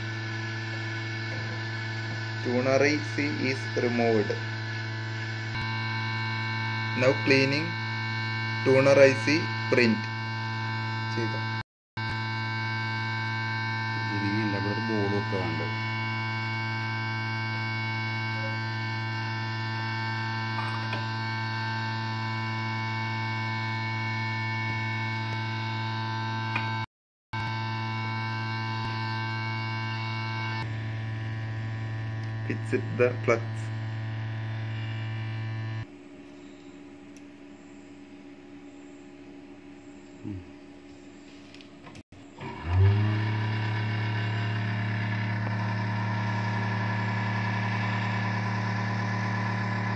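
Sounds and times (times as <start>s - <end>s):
electrical mains hum: 0.0s - 26.8s, 27.4s - 49.9s.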